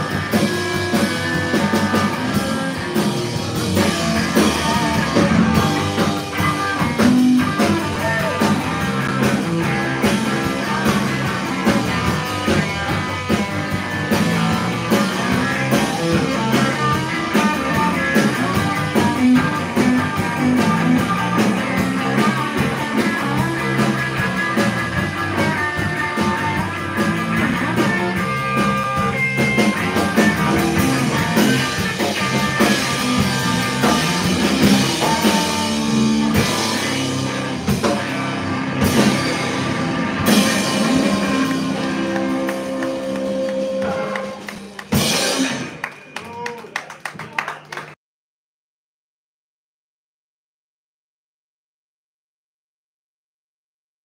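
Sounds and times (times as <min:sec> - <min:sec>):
rock band playing live: 0:00.0 - 0:48.0.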